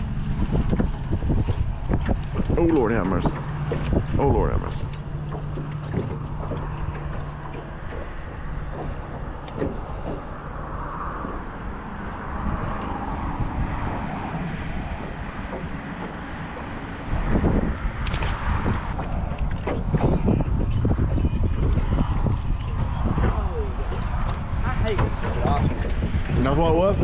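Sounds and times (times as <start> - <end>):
engine drone: 0.0 - 27.0
small knocks: 0.4 - 26.5.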